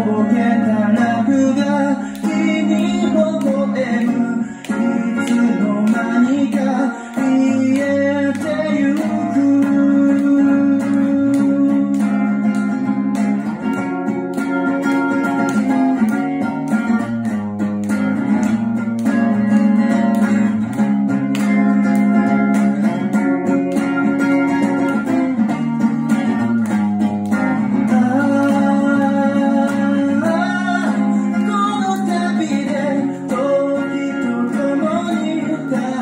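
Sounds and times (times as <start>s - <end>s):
guitar strumming: 0.0s - 36.0s.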